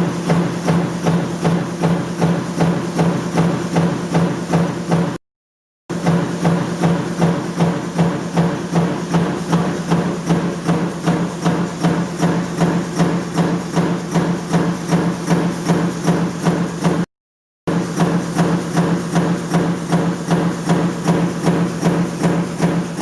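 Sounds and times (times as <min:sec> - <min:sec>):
stamping press knocking: 0:00.0 - 0:05.2, 0:05.9 - 0:17.1, 0:17.7 - 0:23.0.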